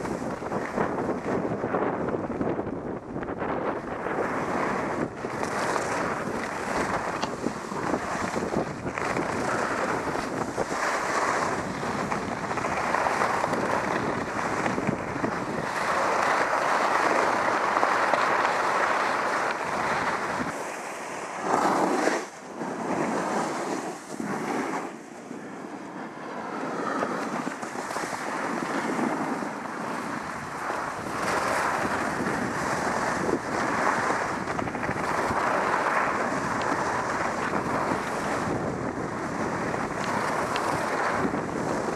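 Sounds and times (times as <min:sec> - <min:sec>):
wind buffeting microphone: 0:00.0 - 0:20.6, 0:22.6 - 0:41.9
skis scraping over snow: 0:00.0 - 0:41.9.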